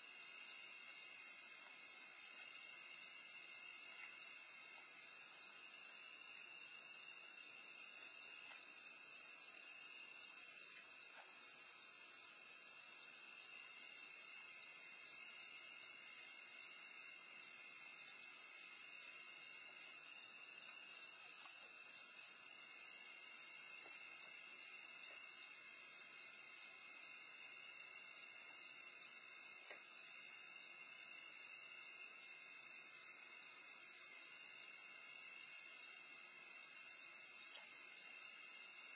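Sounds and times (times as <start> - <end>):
night insects trilling: 0.0 - 38.9.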